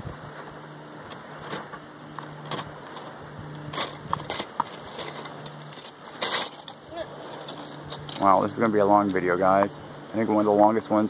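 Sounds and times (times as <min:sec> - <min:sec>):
steady low hum: 0:00.0 - 0:11.0
sharp crackles and clicks: 0:00.3 - 0:09.7.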